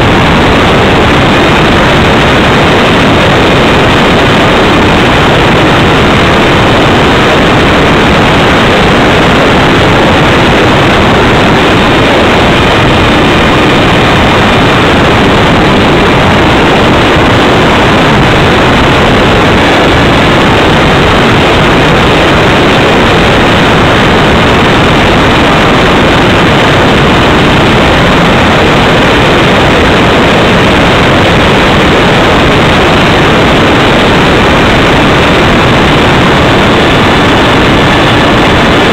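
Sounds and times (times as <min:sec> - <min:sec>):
rushing airflow: 0:00.0 - 0:38.9.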